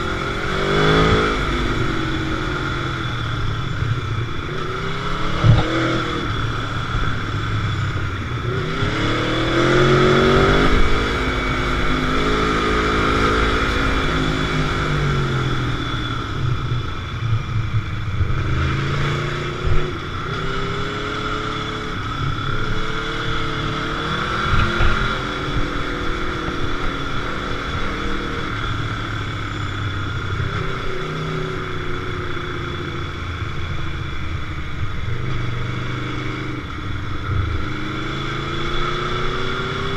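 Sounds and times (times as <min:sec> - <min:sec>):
motorcycle engine revving: 0:00.0 - 0:39.9
road rumble: 0:00.0 - 0:39.9
wind: 0:00.0 - 0:39.9.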